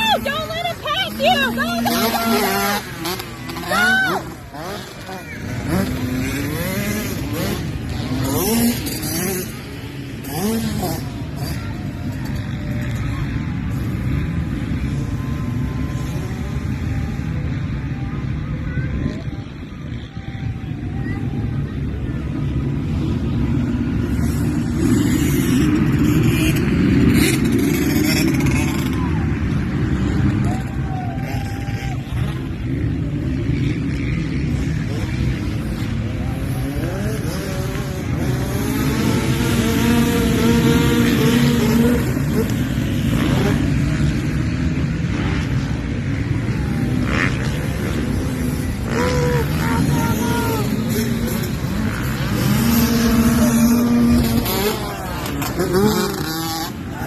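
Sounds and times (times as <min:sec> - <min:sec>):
dirt bike engines running: 0:00.0 - 0:57.0.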